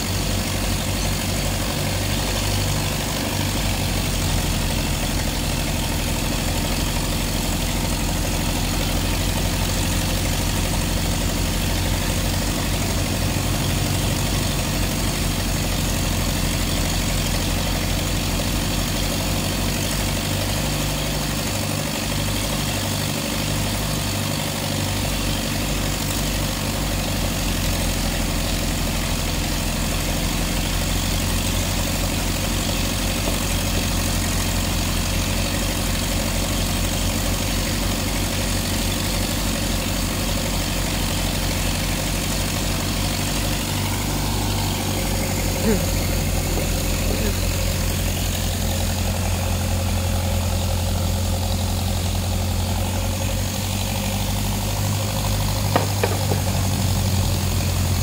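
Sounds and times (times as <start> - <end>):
heavy engine droning: 0.0 - 58.0.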